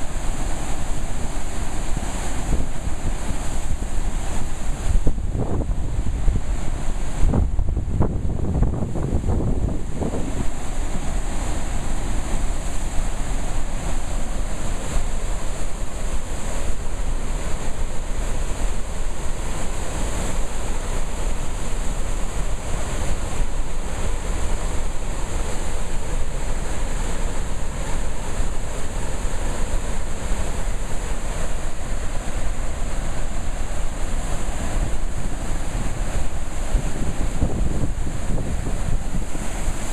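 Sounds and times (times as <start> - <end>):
water rushing through spillway: 0.0 - 39.9.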